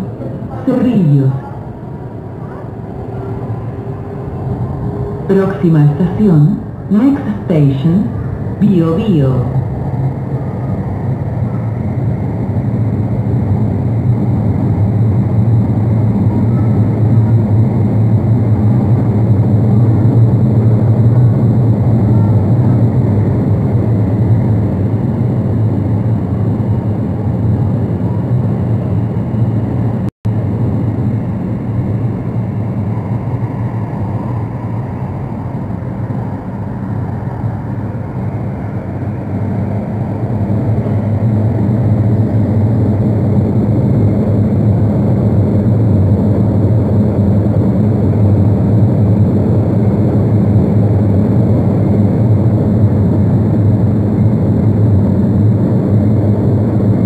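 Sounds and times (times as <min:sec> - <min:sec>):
train wheels and motors rumbling: 0:00.0 - 0:53.5.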